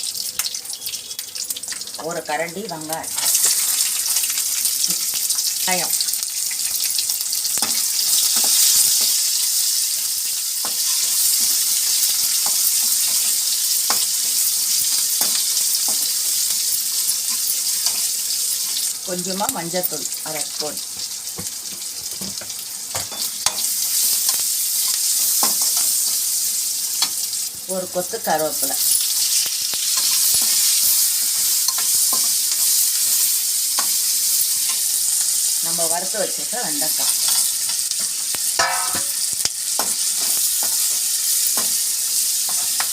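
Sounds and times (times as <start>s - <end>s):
onion sizzling in hot oil: 0.0s - 42.9s.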